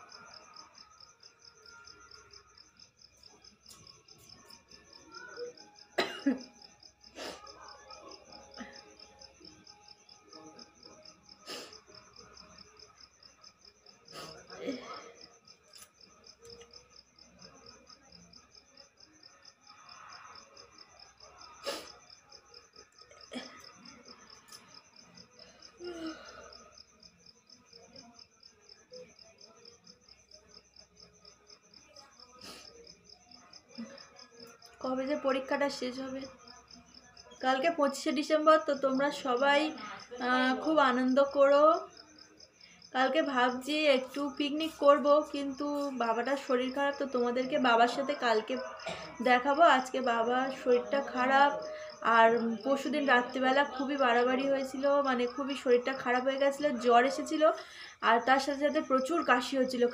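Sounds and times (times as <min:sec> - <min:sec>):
cricket chirping faintly: 0:00.0 - 0:59.9.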